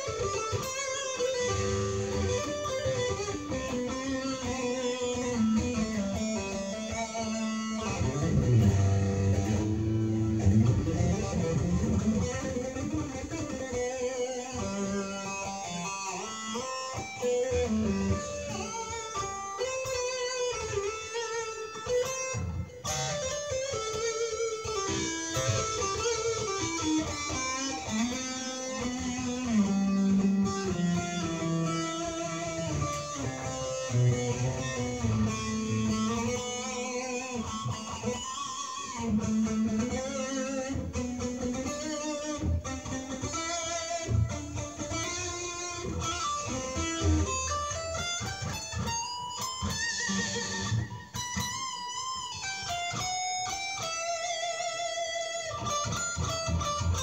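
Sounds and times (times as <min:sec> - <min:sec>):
electric guitar picked melody: 0:00.0 - 0:57.0.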